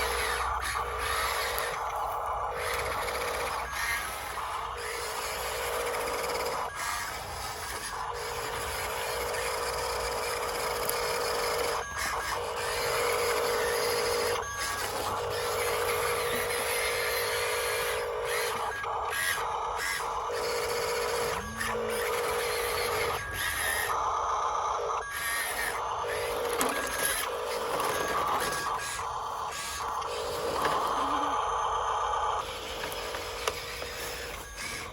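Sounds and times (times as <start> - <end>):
toy truck electric motor whining: 0.0 - 34.9.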